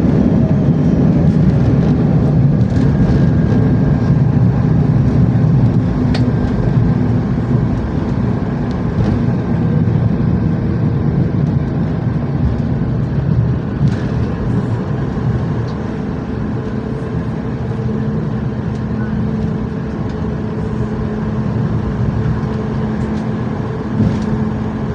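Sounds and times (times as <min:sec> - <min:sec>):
engines and rolling wheels rumble: 0:00.0 - 0:24.9.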